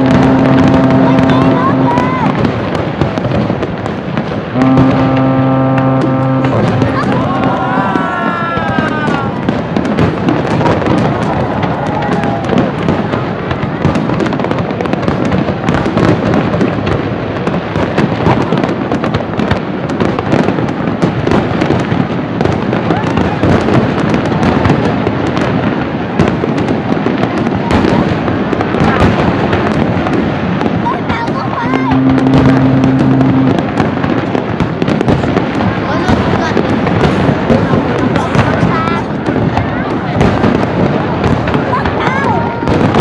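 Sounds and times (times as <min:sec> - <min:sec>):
fireworks bursting and crackling: 0:00.0 - 0:43.0.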